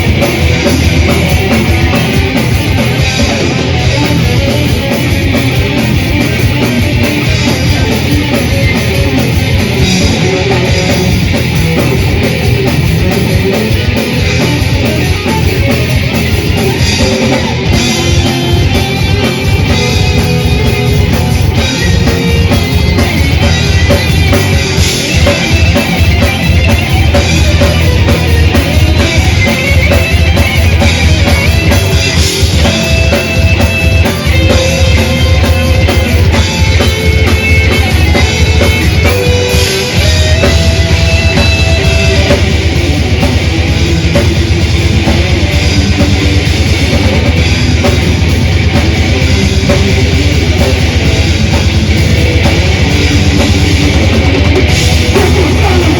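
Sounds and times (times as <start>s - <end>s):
distorted electric guitars: 0.0s - 55.9s
fast dense drumming: 0.0s - 55.9s.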